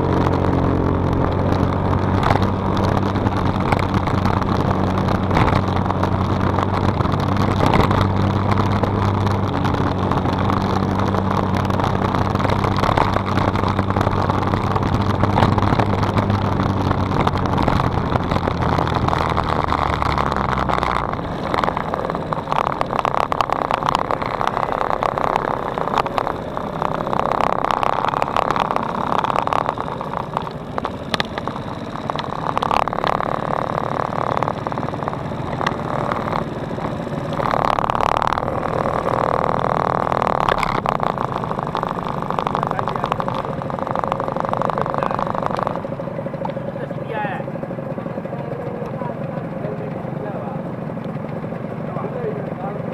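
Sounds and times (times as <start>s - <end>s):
wind rushing across microphone: 0.0s - 46.0s
small motorcycle engine humming: 0.0s - 52.9s.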